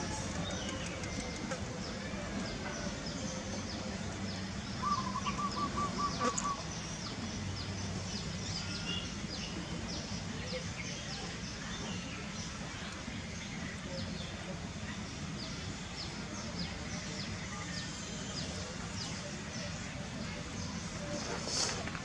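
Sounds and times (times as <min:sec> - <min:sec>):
birds chirping: 0:00.0 - 0:21.7.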